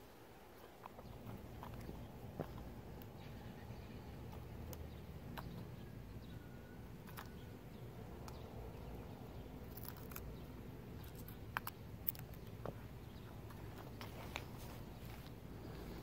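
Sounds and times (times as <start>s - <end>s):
faint outdoor hum: 0.0s - 16.0s.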